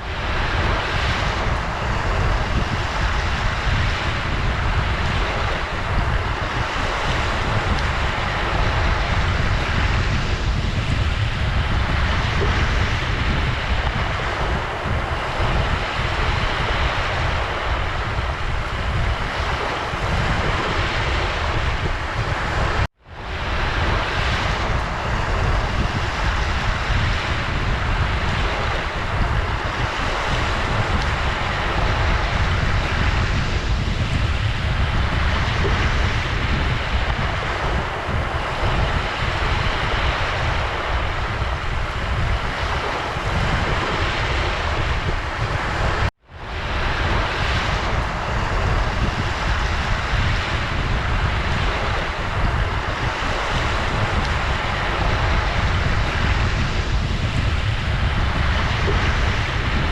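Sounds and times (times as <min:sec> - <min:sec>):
ocean surf washing in: 0:00.0 - 0:59.9.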